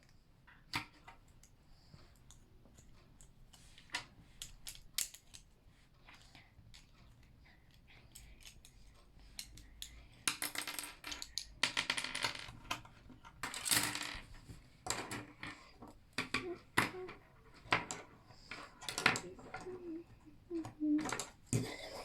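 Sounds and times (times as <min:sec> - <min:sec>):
toy parts clattering and clicking: 0:02.3 - 0:07.2, 0:08.1 - 0:21.6.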